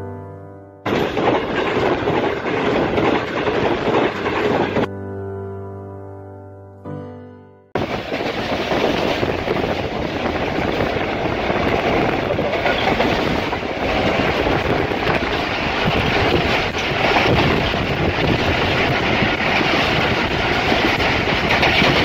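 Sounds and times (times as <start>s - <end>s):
train wheels rumbling on track: 0.9s - 4.9s, 7.8s - 22.0s.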